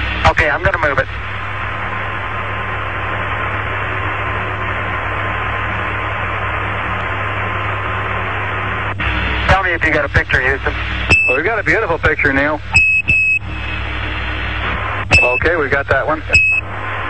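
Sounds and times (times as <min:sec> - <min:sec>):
low hum: 0:00.0 - 0:17.0
radio static hiss: 0:00.0 - 0:17.0.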